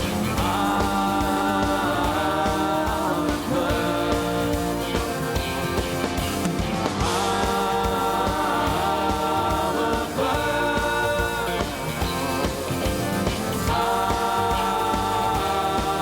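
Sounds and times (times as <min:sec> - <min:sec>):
live band music: 0:00.0 - 0:16.0
singing voices: 0:00.0 - 0:16.0
steady drum beat: 0:00.0 - 0:16.0.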